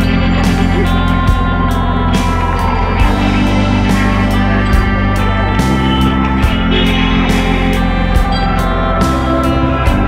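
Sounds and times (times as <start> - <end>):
guitar music with steady beat: 0.0 - 10.0.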